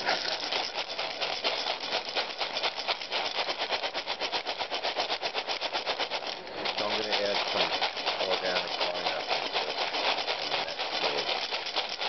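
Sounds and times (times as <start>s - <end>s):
dry kibble rattling in a bowl: 0.0s - 12.0s.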